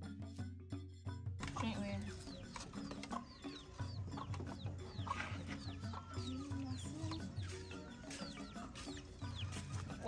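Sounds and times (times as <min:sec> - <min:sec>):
background music: 0:00.0 - 0:10.0
chickens clucking: 0:01.4 - 0:10.0.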